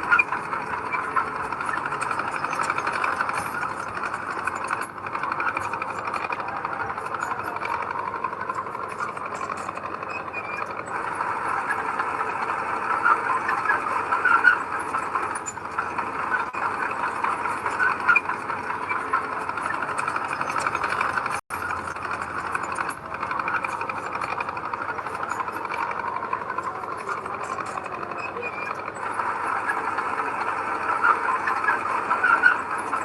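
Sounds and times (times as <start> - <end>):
heavy diesel machinery rattling: 0.0 - 33.0.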